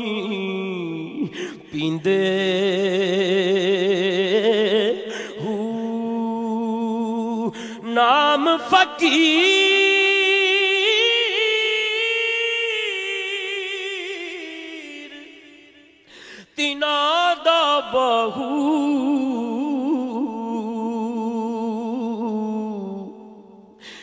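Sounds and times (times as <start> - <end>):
man singing unaccompanied: 0.0 - 15.4, 16.5 - 23.5.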